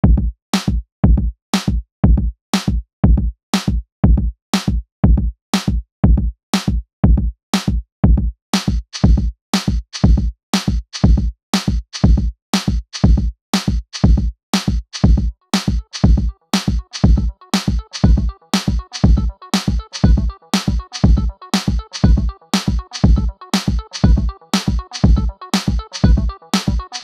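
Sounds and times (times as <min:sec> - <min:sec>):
deep kick drum: 0:00.0 - 0:26.8.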